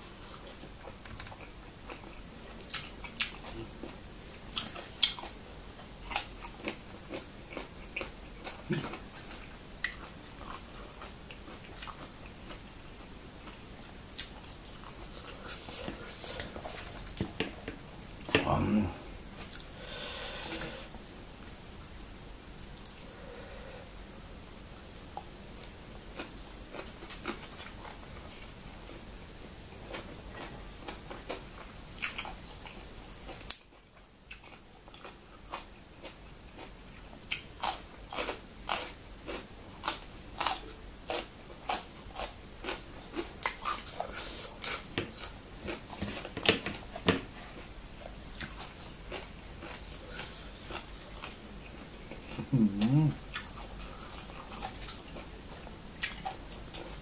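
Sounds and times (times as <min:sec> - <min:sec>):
person chewing crunchy vegetables: 0:00.2 - 0:20.8, 0:25.2 - 0:29.1, 0:29.7 - 0:57.0.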